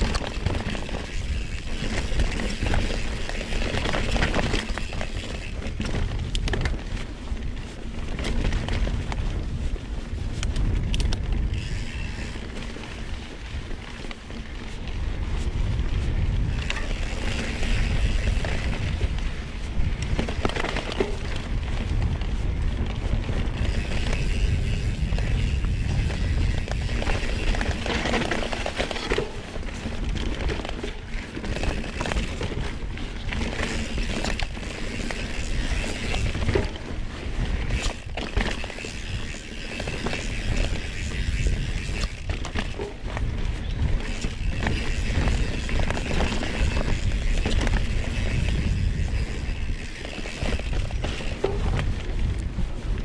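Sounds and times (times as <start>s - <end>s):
bike rattling and knocking: 0.0s - 53.0s
bike tyres on dirt: 0.0s - 53.0s
wind rumble on microphone: 0.0s - 53.0s.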